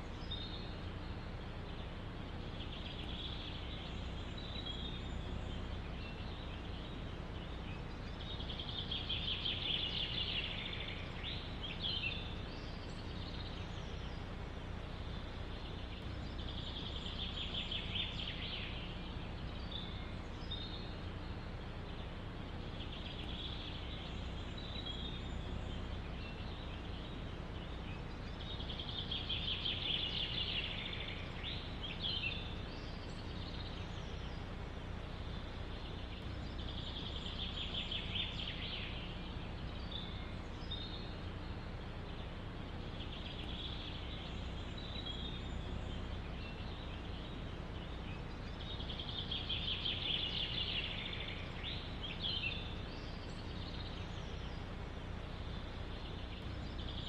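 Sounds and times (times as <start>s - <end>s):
low rumble of wind: 0.0s - 57.0s
songbird trilling: 0.0s - 57.0s.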